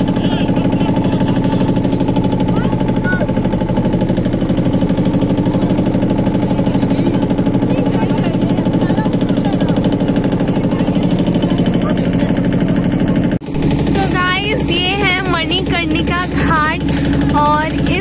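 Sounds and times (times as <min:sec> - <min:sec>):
boat engine chugging: 0:00.0 - 0:18.0.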